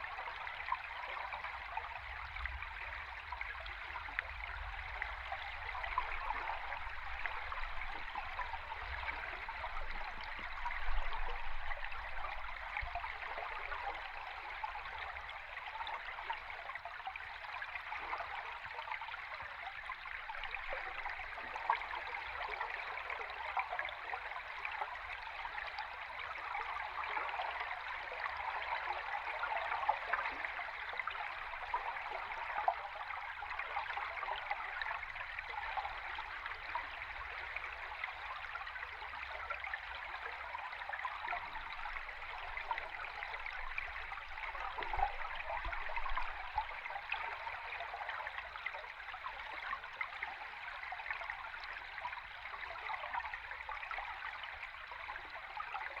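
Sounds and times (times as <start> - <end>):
underwater stream noise: 0.0 - 56.0.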